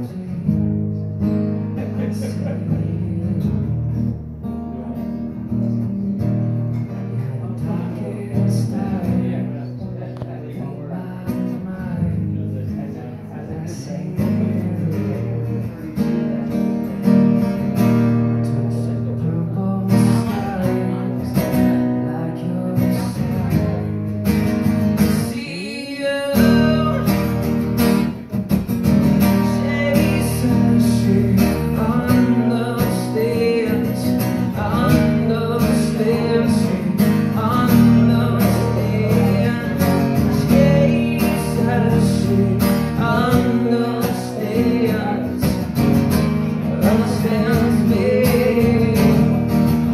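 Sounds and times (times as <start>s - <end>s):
man singing: 0.0s - 17.2s, 18.1s - 24.1s, 25.0s - 28.4s, 29.1s - 49.9s
acoustic guitar strumming: 0.0s - 49.9s.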